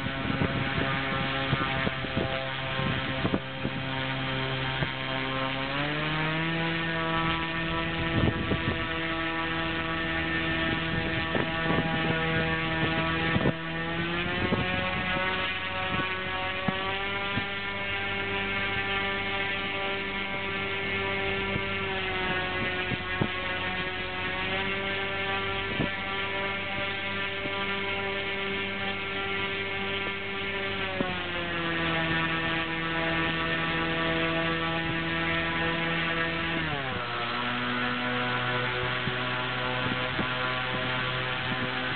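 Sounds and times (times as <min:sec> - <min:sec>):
electric motor propeller whine: 0:00.0 - 0:41.9.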